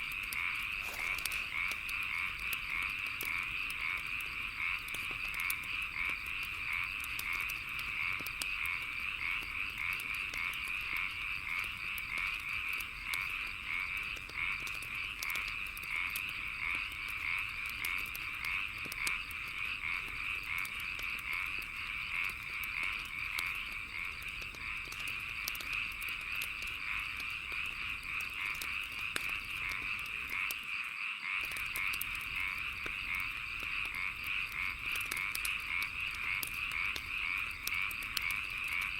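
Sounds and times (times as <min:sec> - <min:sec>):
bonfire crackling and popping: 0:00.0 - 0:38.9
frogs and insects trilling: 0:00.0 - 0:38.9.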